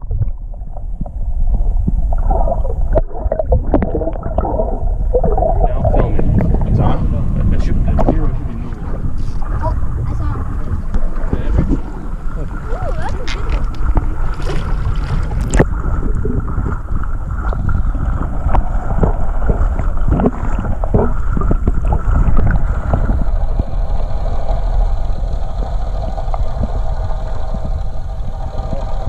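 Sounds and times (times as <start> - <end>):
faint steady hum: 0.0 - 29.0
muffled underwater rumble and sloshing: 0.0 - 29.0
water splash: 1.9 - 29.0.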